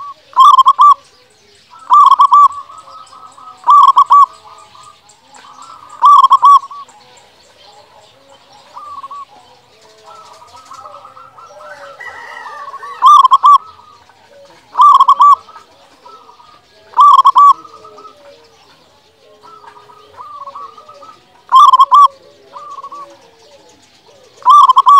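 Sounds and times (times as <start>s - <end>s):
dove cooing: 0.0s - 1.1s, 1.7s - 24.9s
faint bird calls: 0.0s - 24.9s.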